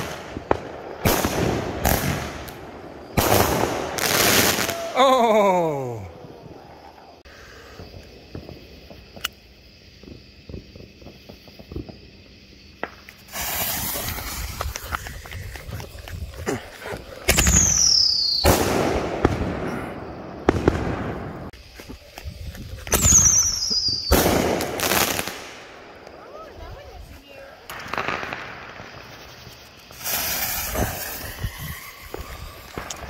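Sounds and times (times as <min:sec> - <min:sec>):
firework hissing rush: 0:00.0 - 0:05.0, 0:10.8 - 0:33.0
firework bursts and bangs: 0:00.0 - 0:05.1, 0:06.1 - 0:33.0.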